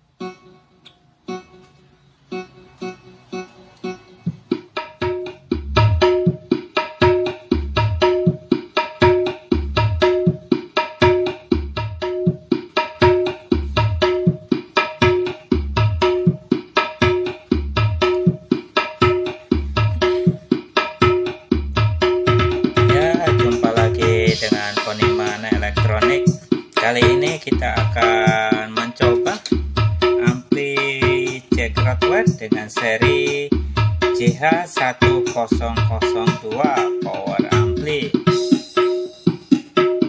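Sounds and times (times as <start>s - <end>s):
plucked-string melody: 0.0s - 40.0s
drum rhythm: 3.4s - 40.0s
deep bass beats: 4.3s - 40.0s.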